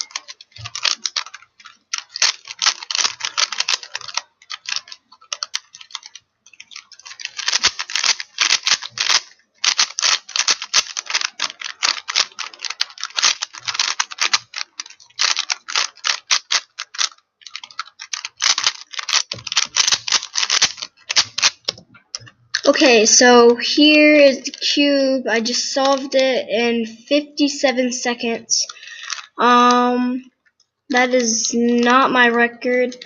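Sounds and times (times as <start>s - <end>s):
plastic puzzle cube clicking: 0.0s - 24.8s, 25.4s - 26.2s, 28.6s - 32.2s.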